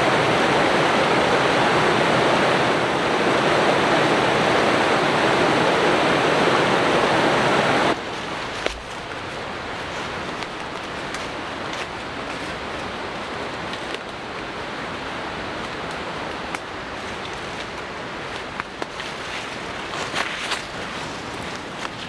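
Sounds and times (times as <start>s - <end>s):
creek water rushing over rocks: 0.0s - 22.0s.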